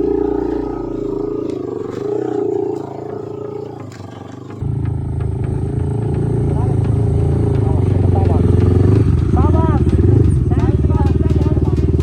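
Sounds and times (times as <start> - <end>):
deeper engine note: 0.0 - 12.0
motorcycle engine running: 0.0 - 12.0.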